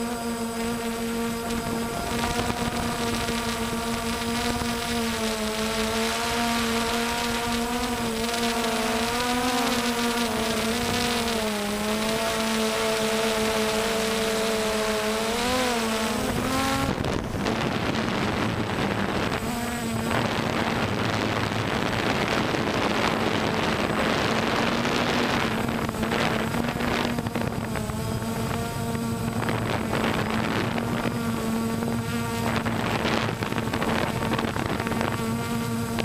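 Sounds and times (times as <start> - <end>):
drone propellers whining: 0.0 - 36.0
rushing wind noise: 0.0 - 36.0.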